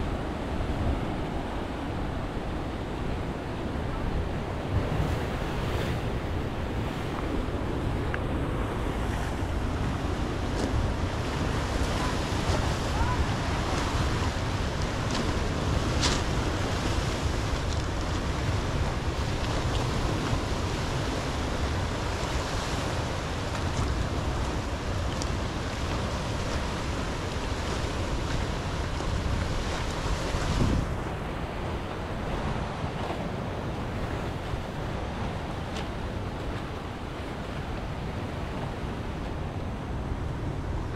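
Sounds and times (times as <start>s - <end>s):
ocean surf crashing over rocks: 0.0s - 40.9s
wind buffeting microphone: 0.0s - 40.9s.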